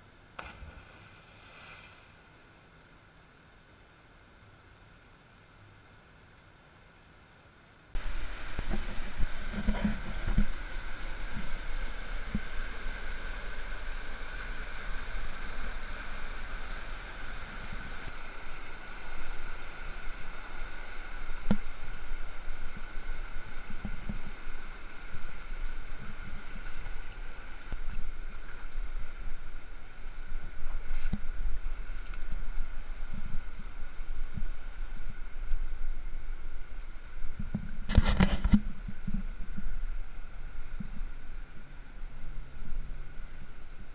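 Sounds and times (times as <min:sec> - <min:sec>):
low wind rumble: 0:07.9 - 0:43.9.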